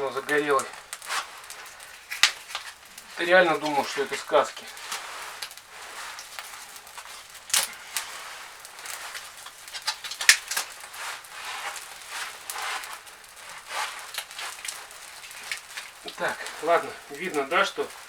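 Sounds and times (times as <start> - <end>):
fire crackling in fireplace: 0.0 - 18.0
sharp pops of fire: 0.0 - 18.0.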